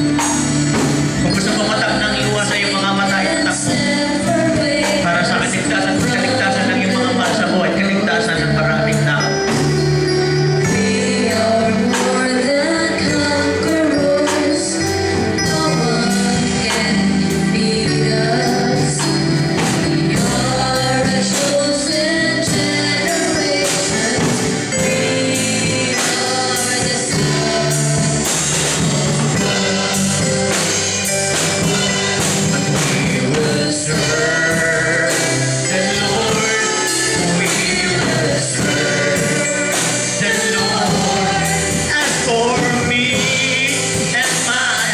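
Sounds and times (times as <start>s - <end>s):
instrumental accompaniment with beat: 0.0s - 44.9s
man singing into a microphone: 1.1s - 9.5s, 10.6s - 28.3s, 32.5s - 44.9s.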